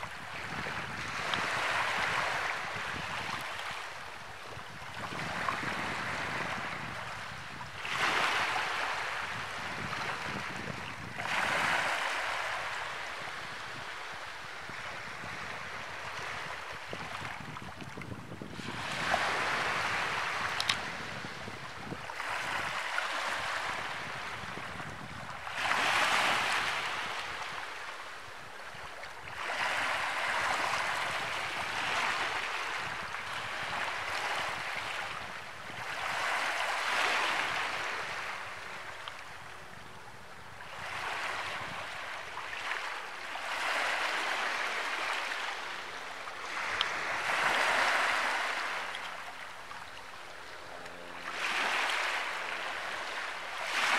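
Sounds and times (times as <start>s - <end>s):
small waves washing onto sand: 0.0s - 53.9s.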